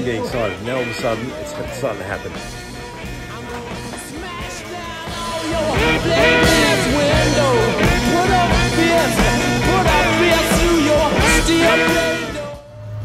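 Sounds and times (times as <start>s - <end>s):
rock song with singing: 0.0s - 13.0s.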